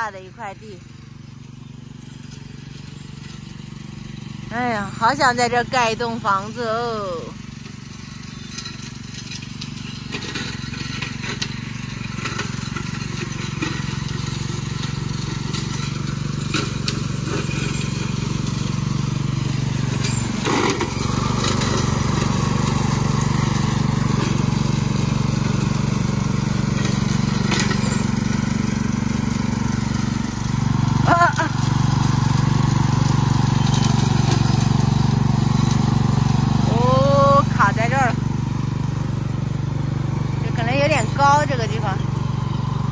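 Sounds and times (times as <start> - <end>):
riding lawn mower engine: 0.0 - 42.9.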